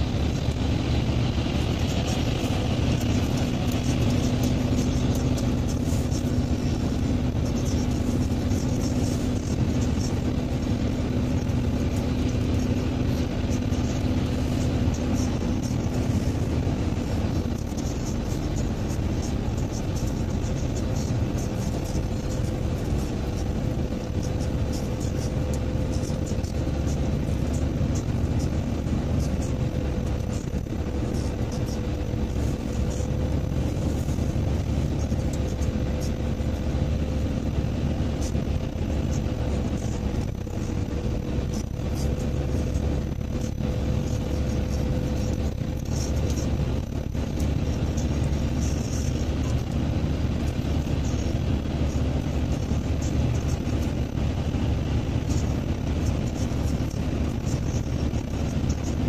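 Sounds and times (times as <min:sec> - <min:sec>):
car engine and tyre rumble: 0:00.0 - 0:59.0
constant mid-pitched hum: 0:00.0 - 0:59.0.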